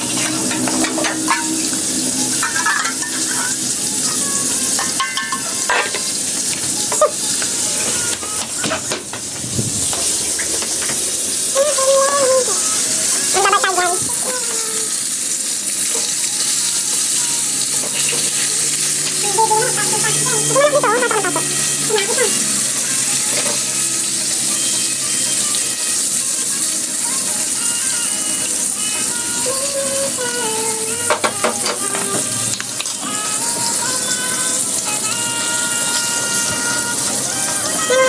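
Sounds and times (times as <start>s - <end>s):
oil sizzling in a pan: 0.0s - 38.0s.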